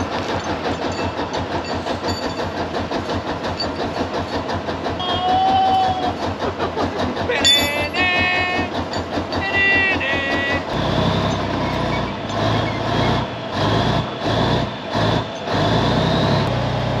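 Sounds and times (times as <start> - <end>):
military vehicle engine whining: 0.0 - 17.0.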